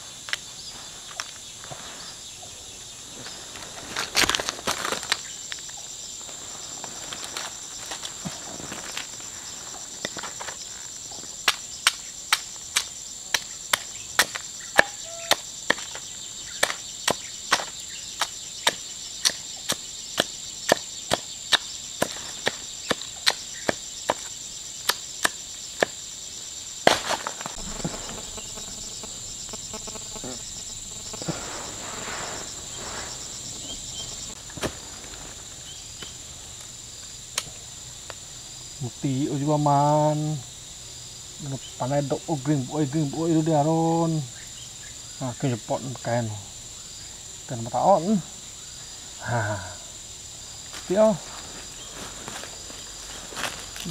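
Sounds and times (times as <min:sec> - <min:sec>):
insects droning shrilly: 0:00.0 - 0:53.9.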